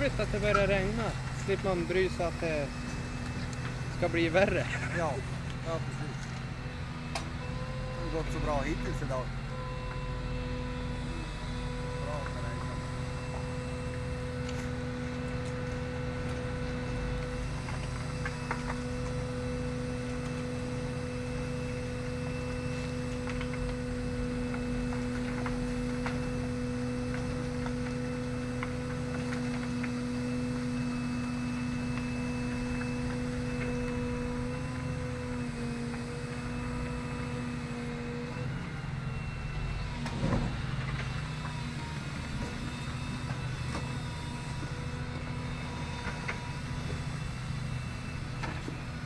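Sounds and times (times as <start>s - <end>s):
excavator engine and hydraulics: 0.0s - 49.0s.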